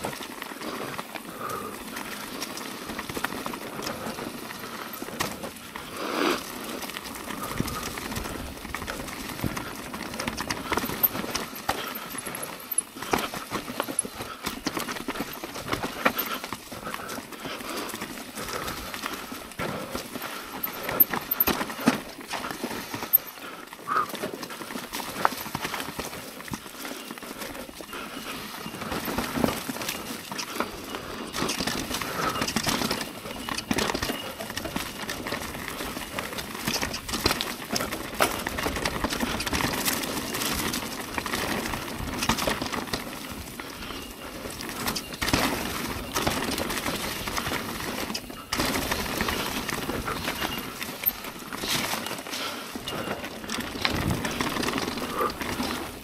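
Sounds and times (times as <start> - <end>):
bike knocking and rattling: 0.0 - 56.0
bike tyres rolling over dirt: 0.0 - 56.0.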